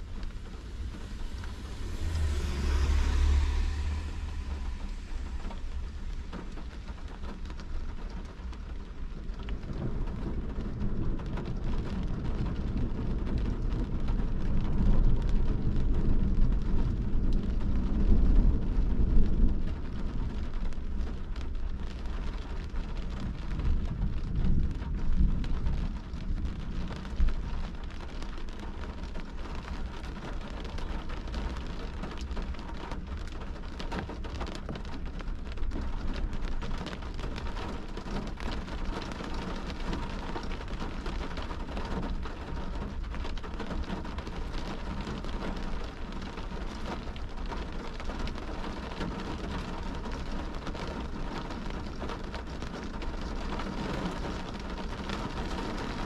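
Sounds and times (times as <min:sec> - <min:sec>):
low rumble: 0:00.0 - 0:51.2
rain on a car windshield: 0:00.0 - 0:56.0.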